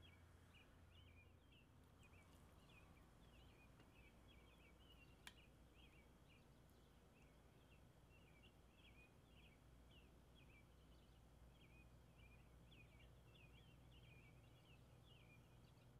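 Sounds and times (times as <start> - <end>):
low steady hum: 0.0 - 15.9
small birds chirping: 0.0 - 15.9.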